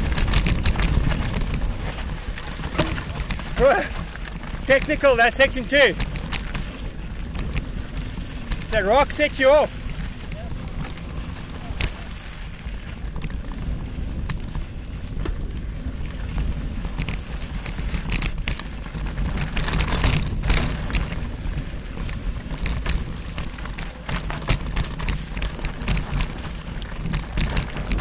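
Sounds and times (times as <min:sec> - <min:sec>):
bike knocking on rocks: 0:00.0 - 0:28.0
bike rattling: 0:00.0 - 0:28.0
bike tyres crunching on gravel: 0:00.0 - 0:28.0
wind rumble on microphone: 0:00.0 - 0:28.0.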